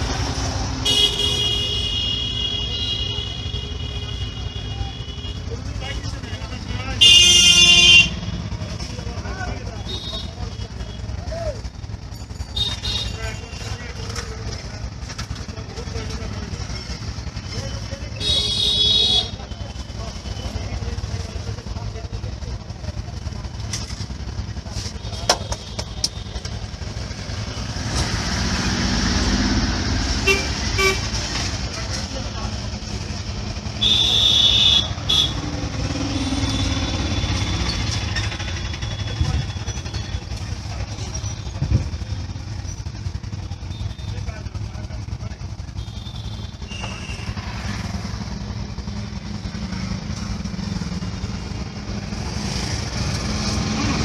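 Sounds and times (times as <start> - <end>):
road traffic rumbling: 0.0 - 54.0.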